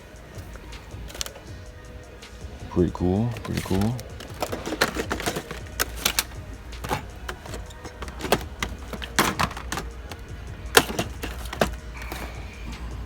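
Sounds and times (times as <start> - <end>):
toy cars clicking and clacking: 0.0 - 13.0.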